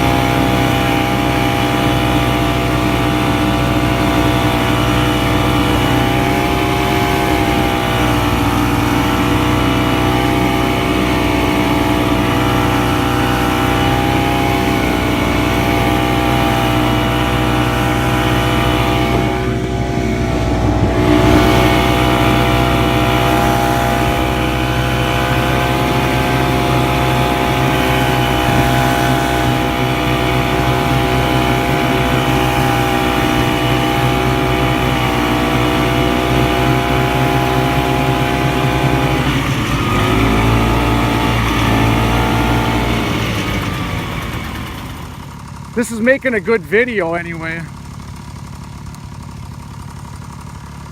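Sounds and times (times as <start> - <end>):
two-stroke snowmobile engine running: 0.0 - 50.9.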